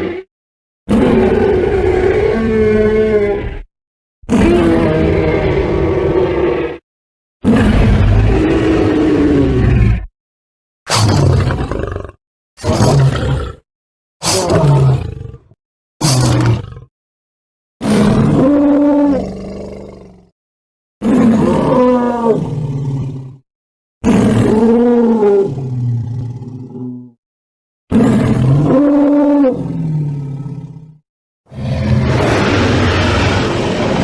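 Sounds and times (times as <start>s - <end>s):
dinosaur roars: 0.0s - 0.3s, 0.9s - 6.8s, 7.4s - 10.1s, 10.9s - 13.6s, 14.2s - 16.9s, 17.8s - 20.3s, 21.0s - 23.4s, 24.0s - 27.2s, 27.9s - 34.0s.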